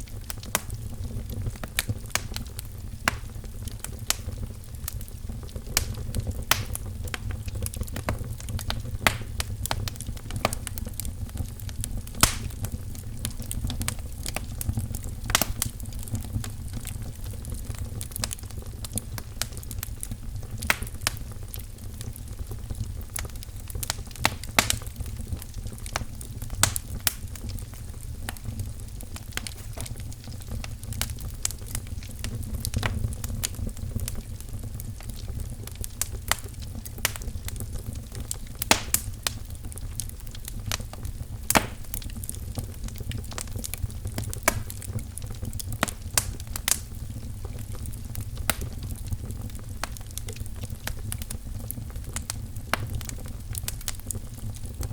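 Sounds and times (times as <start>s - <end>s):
low rumble of burning: 0.0s - 54.9s
wood fire crackling: 0.0s - 54.9s.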